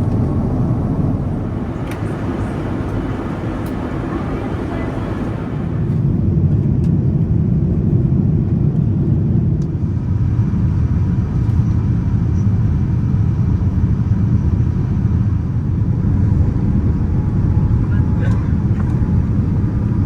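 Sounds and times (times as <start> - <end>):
airliner cabin roar: 0.0 - 8.0, 9.8 - 20.0.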